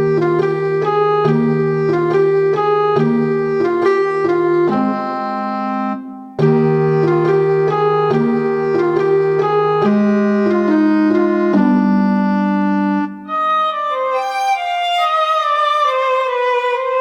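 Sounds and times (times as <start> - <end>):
organ-like keyboard chords: 0.0 - 14.6
keyboard melody: 0.0 - 17.0.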